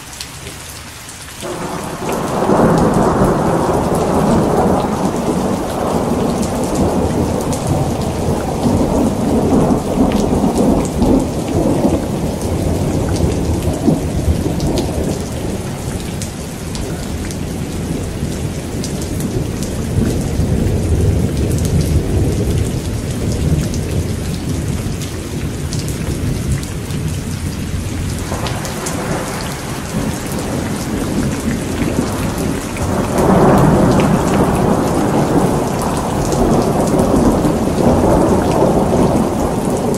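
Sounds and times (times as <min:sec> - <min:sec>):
rain pattering: 0:00.0 - 0:39.9
rolling thunder: 0:01.4 - 0:39.9.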